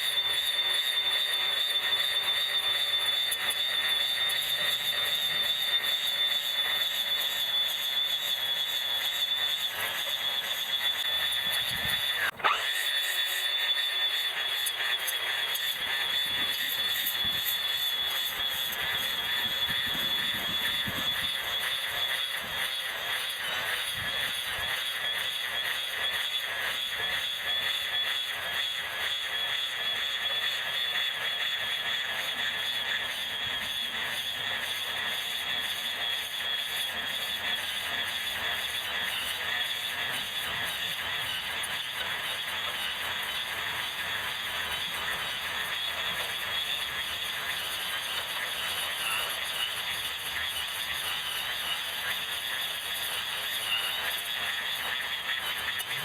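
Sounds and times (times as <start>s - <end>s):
electric grass trimmer whining: 0.0s - 56.0s.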